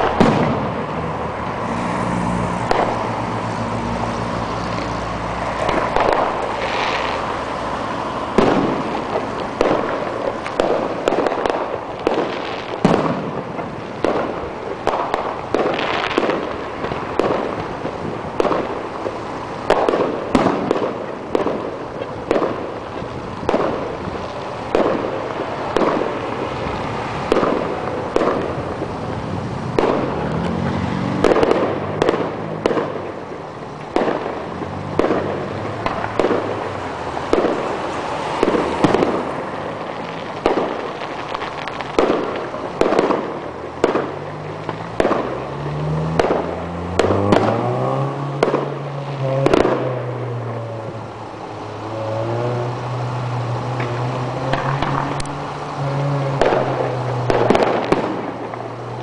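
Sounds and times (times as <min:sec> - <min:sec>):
fireworks bangs with echo: 0:00.0 - 0:59.0.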